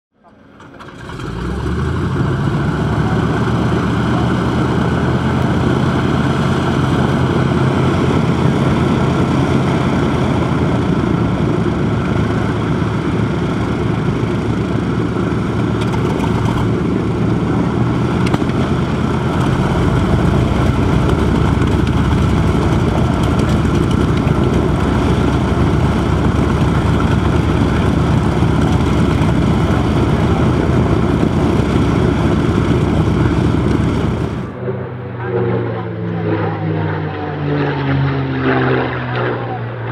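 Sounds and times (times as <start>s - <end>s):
radial aircraft engine idling: 0.2s - 39.9s.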